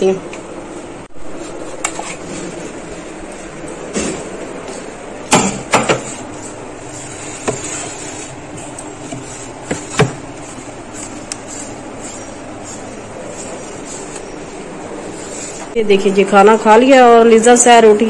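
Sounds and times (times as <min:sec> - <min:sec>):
refrigerator hum: 0:00.0 - 0:18.0.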